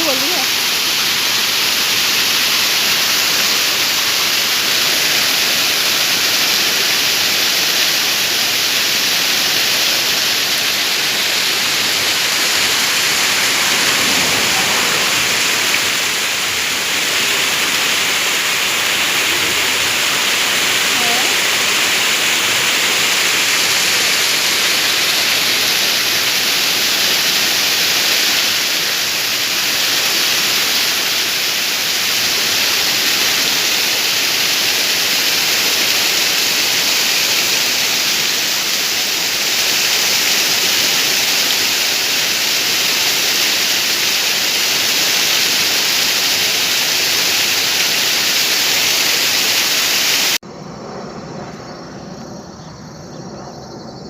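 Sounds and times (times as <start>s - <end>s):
waterfall rushing: 0.0s - 50.4s.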